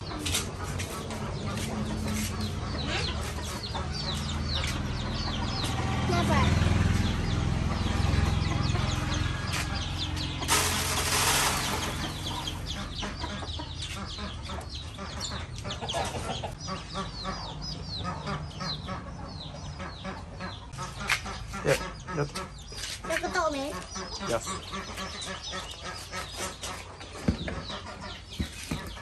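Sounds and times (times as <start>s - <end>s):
chickens clucking: 0.0s - 29.0s
chicks and ducklings peeping: 0.0s - 29.0s.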